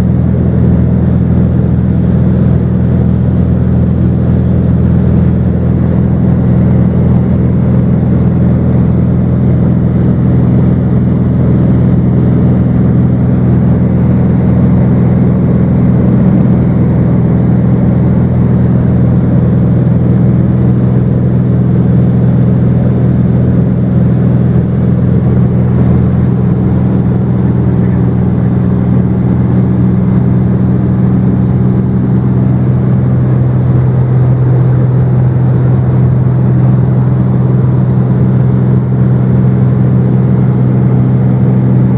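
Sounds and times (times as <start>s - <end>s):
aircraft engine droning: 0.0s - 41.9s.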